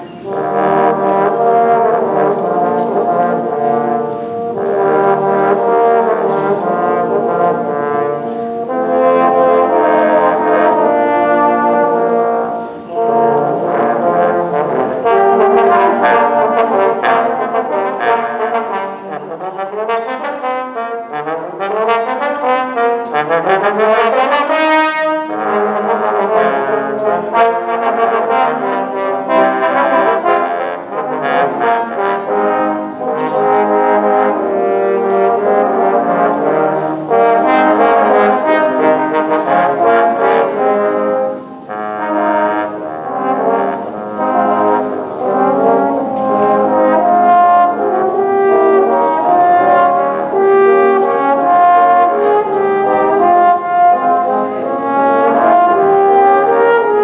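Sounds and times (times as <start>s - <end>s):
trombones playing in harmony: 0.0s - 57.0s.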